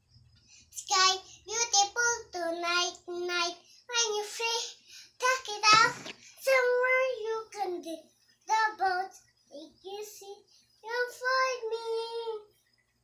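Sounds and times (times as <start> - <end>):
girl singing unaccompanied: 0.7 - 12.6.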